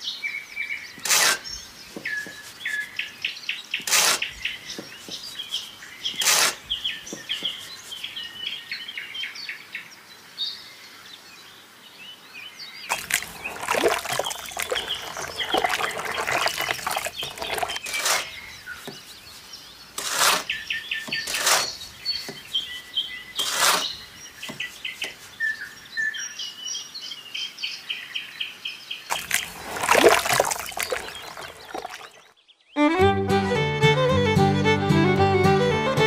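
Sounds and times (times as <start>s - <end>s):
small birds chirping: 0.0s - 32.8s.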